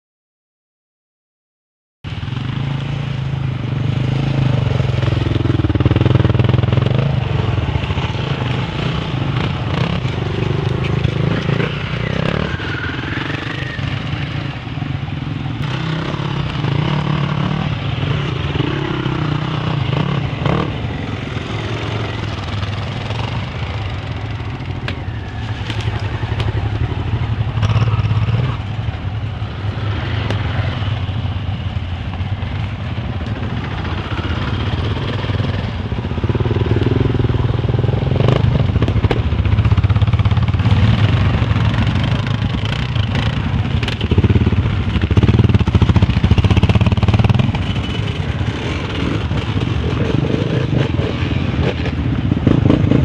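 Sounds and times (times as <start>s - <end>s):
dirt bike engines revving: 2.1s - 53.0s.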